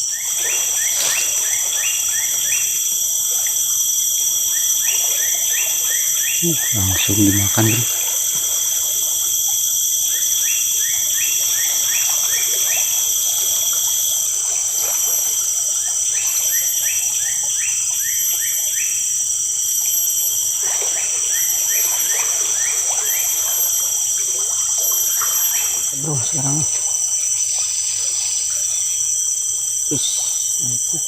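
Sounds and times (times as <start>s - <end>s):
high-pitched insect drone: 0.0s - 31.0s
faint running water: 0.1s - 31.0s.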